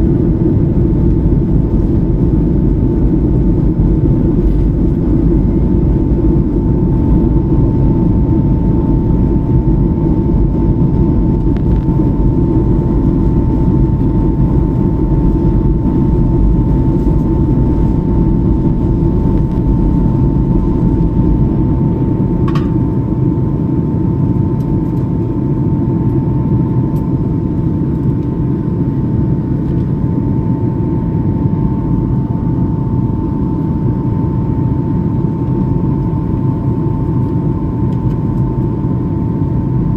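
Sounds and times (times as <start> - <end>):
airliner rumble: 0.0 - 39.9
thin steady whine: 0.0 - 39.9.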